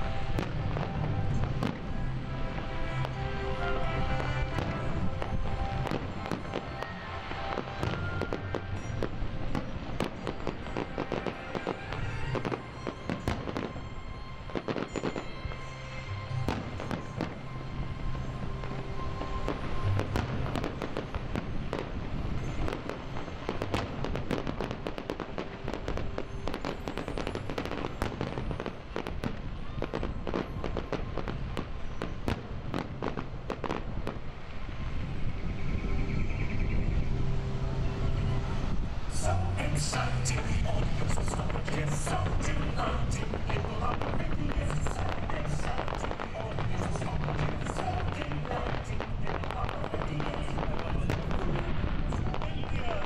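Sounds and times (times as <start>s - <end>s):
music playing: 0.0s - 31.6s, 32.7s - 53.0s
fireworks bursting and crackling: 0.0s - 37.1s, 38.2s - 53.0s.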